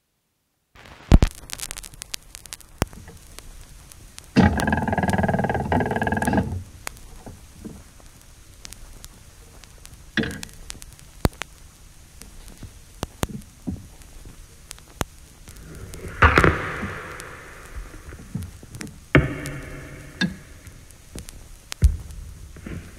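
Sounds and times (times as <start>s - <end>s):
record surface crackle: 0.0s - 22.9s
sharp clicks: 1.1s - 22.2s.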